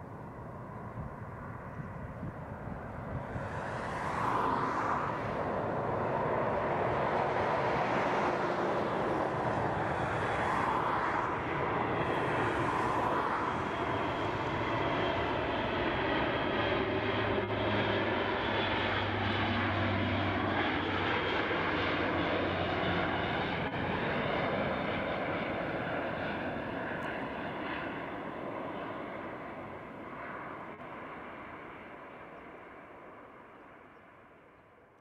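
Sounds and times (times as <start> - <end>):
turboprop aircraft droning: 0.0 - 35.0.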